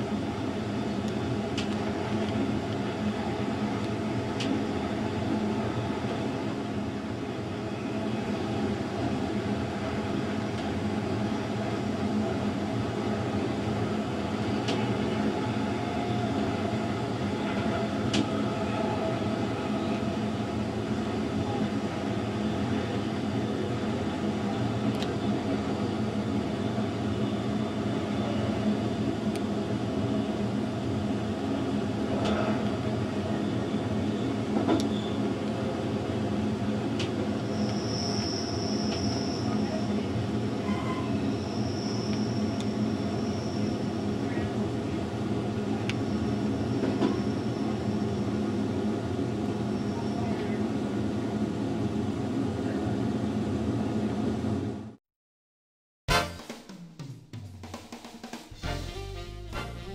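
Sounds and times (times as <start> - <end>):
electric train rumbling: 0.0 - 54.9.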